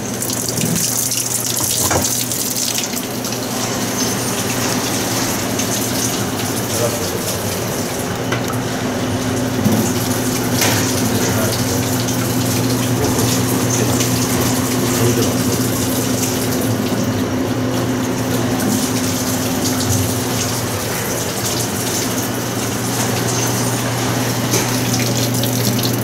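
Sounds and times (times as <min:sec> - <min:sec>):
washing machine humming: 0:00.0 - 0:26.0
water running through drain hose: 0:00.0 - 0:26.0.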